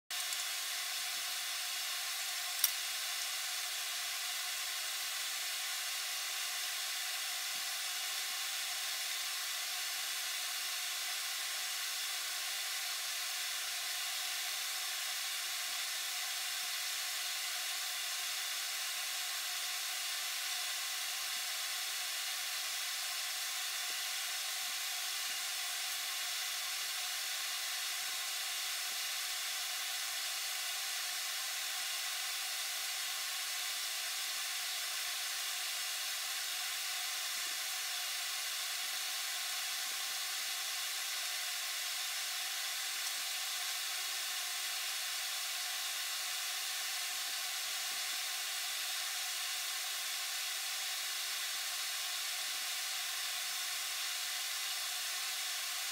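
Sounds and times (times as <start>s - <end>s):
steady hiss: 0.1s - 55.9s.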